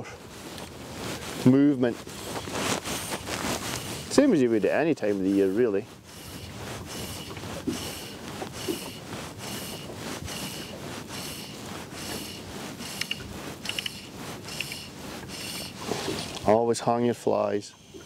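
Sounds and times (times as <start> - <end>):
fly line rasping through rod rings: 0.5 - 16.5.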